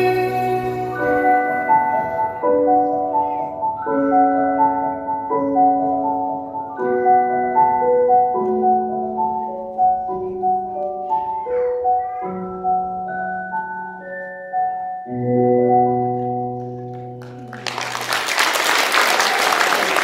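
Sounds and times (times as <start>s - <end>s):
slow gentle instrumental music: 0.0s - 18.2s.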